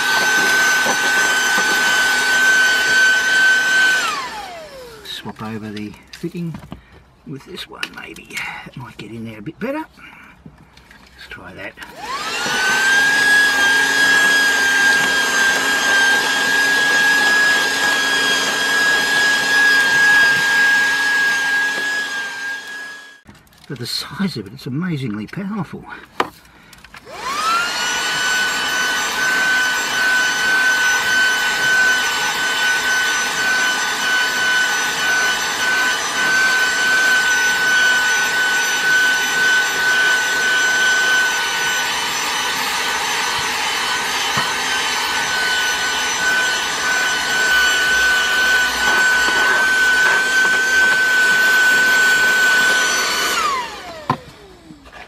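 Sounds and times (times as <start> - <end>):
handheld vacuum motor whine: 0.0 - 6.7, 11.8 - 23.2, 26.2 - 55.0.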